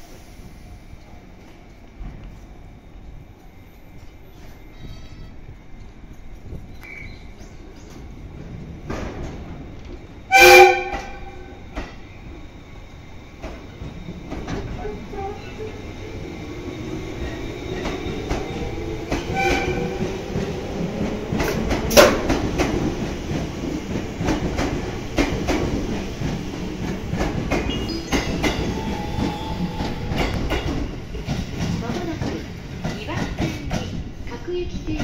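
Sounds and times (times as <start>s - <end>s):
electric train running gear rumbling: 5.4s - 35.0s.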